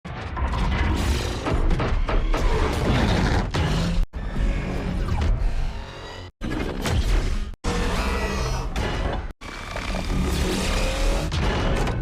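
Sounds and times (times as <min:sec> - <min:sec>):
music: 0:00.1 - 0:06.3, 0:07.7 - 0:12.0.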